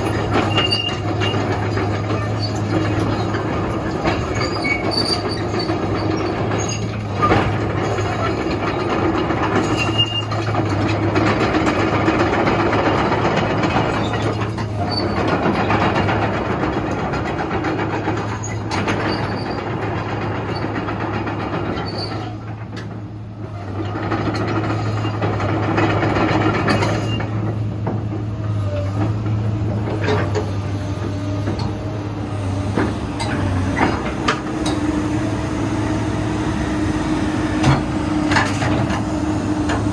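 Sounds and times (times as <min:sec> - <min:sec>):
diesel engine under load: 0:00.0 - 0:39.9
hydraulic working noise: 0:00.0 - 0:39.9.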